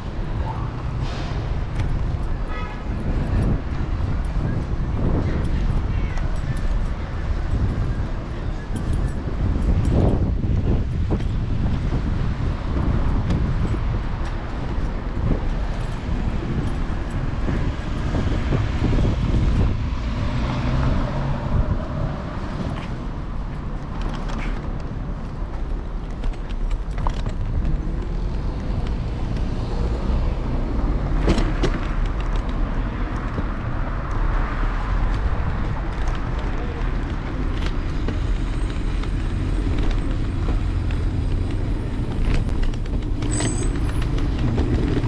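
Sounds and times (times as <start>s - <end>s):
wind and road noise rumble: 0.0s - 45.0s.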